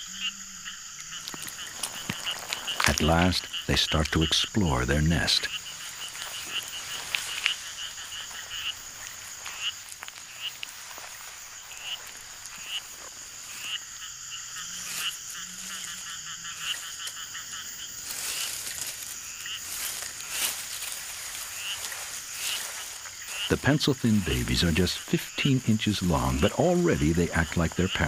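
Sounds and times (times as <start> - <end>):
frogs calling: 0.0 - 28.0
high insect drone: 0.0 - 28.0.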